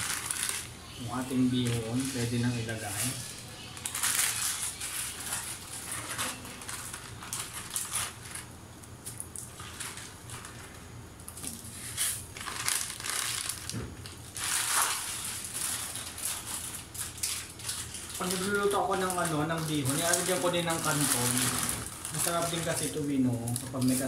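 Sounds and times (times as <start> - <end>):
plastic packet crinkling: 0.0 - 24.0.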